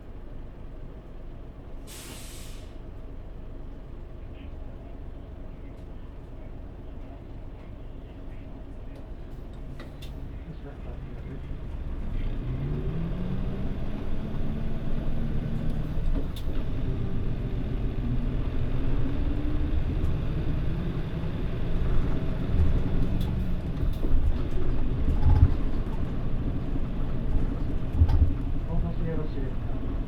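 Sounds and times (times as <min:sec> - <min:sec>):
road rumble: 0:00.0 - 0:30.0
bus engine accelerating: 0:00.1 - 0:30.0.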